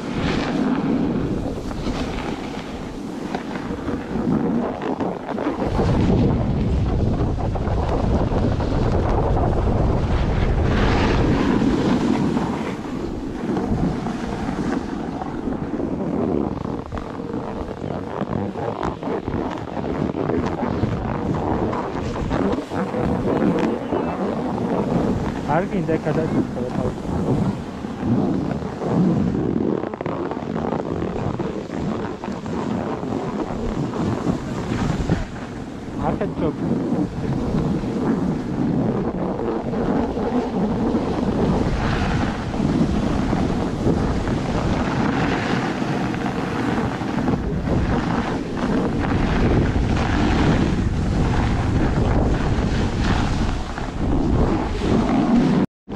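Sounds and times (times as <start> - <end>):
snowboard sliding over snow: 0.0 - 55.6
wind buffeting microphone: 0.0 - 55.9.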